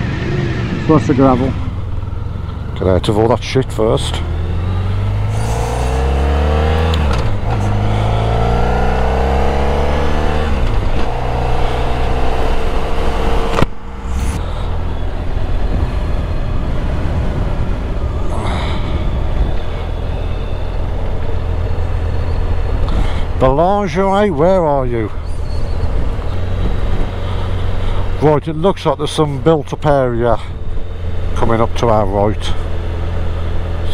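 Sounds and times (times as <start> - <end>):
motorcycle engine accelerating: 0.0 - 28.3.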